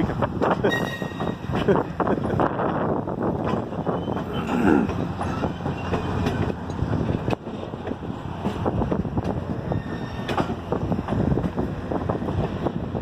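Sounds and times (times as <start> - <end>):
train cars rumbling by: 0.0 - 13.0
wheels clicking on rails: 0.0 - 13.0.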